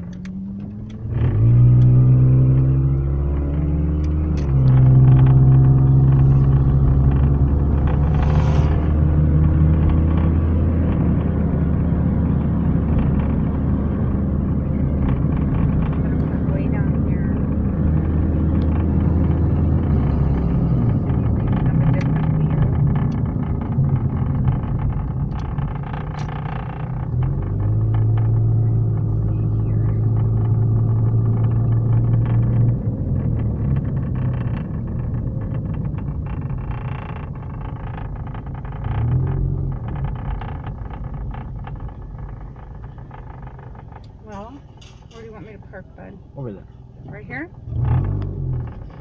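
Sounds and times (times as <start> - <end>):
car engine hum: 0.0 - 49.0
road noise inside car: 0.0 - 49.0.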